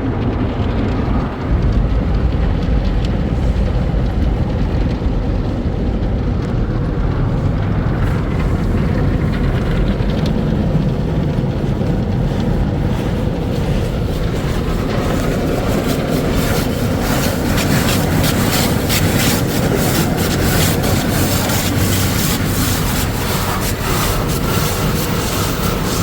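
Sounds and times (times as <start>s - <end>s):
car wash machinery rumbling: 0.0s - 26.0s
water spattering wash: 0.0s - 26.0s.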